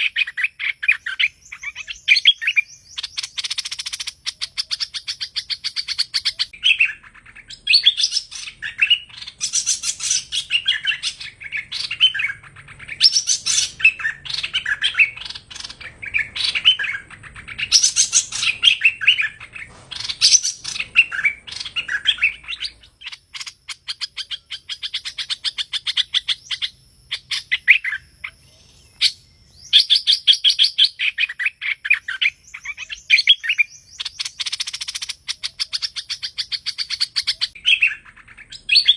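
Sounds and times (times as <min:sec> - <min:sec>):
bulbuls singing chattering chirps: 0:00.0 - 0:38.9.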